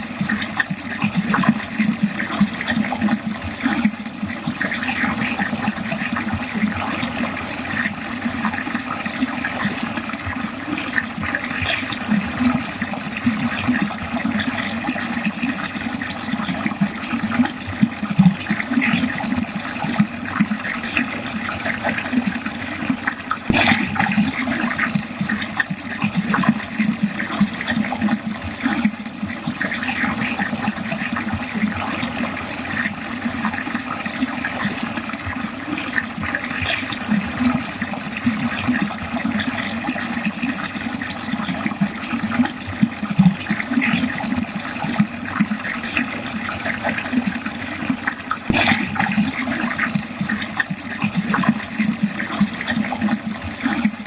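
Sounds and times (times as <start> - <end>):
water gurgling down a drain: 0.0 - 54.0
water splashing: 0.0 - 54.0.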